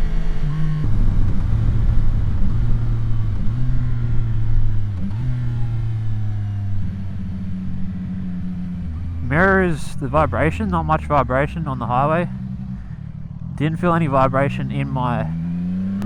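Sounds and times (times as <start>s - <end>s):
motorcycle engine at speed: 0.0s - 16.0s.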